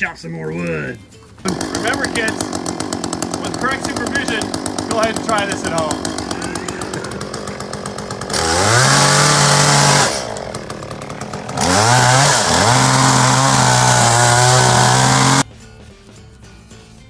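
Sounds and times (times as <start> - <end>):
chainsaw idling and revving: 1.4 - 15.4.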